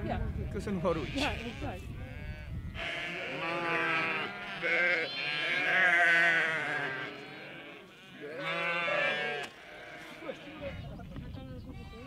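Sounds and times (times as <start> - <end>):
sheep and lambs bleating: 0.9 - 11.0, 11.7 - 12.0.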